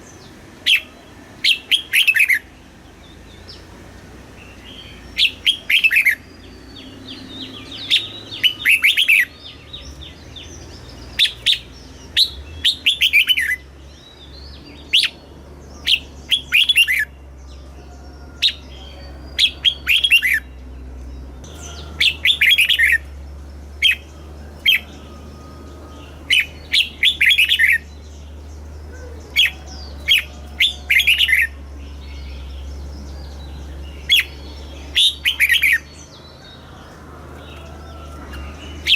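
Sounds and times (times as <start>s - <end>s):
bird singing whistled notes: 0.0s - 3.7s, 4.4s - 37.0s.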